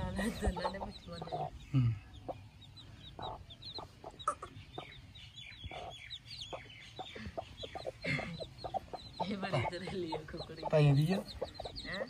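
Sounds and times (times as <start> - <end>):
chicks peeping: 0.0 - 12.0
hen clucking softly: 0.0 - 12.0.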